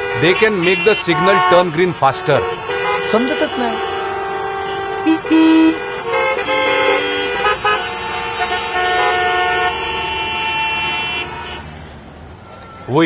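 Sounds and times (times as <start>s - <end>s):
vehicle horns honking: 0.0s - 11.9s.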